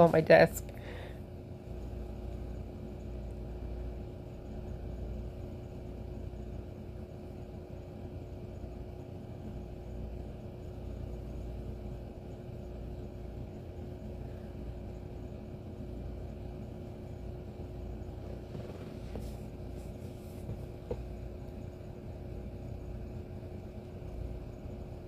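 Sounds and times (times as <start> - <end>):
faint constant tone: 0.0 - 25.0
low background hum: 0.0 - 25.0.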